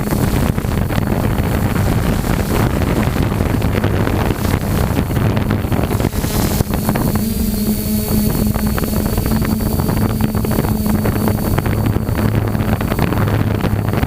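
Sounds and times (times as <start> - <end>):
drone propellers humming: 0.0 - 14.0
wind buffeting microphone: 0.0 - 14.0.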